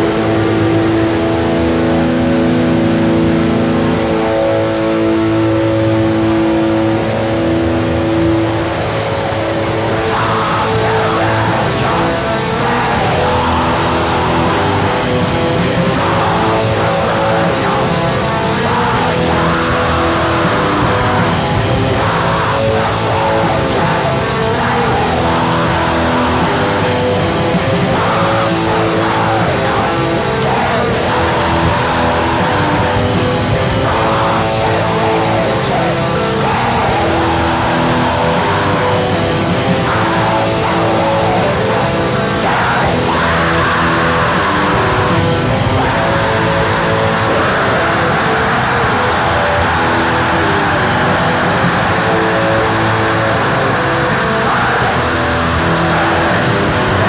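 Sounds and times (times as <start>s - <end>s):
black metal distorted guitars: 0.0s - 57.0s.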